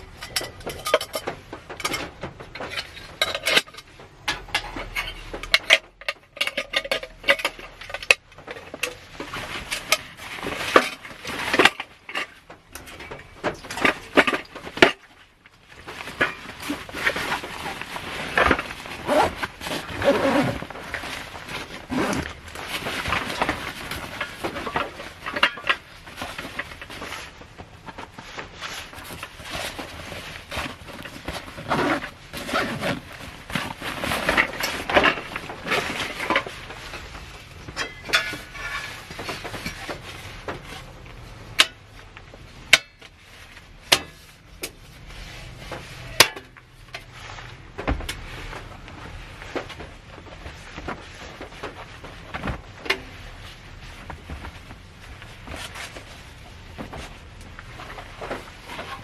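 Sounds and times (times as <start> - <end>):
crinkly rustles: 0.0 - 59.0.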